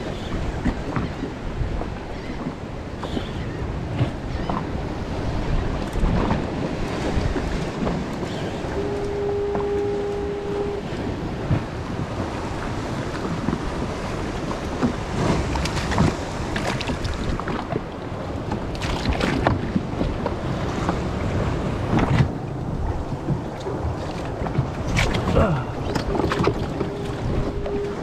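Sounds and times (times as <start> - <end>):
water slapping a kayak hull: 0.0 - 28.0
wind on microphone: 0.0 - 28.0
choppy surf: 4.0 - 28.0.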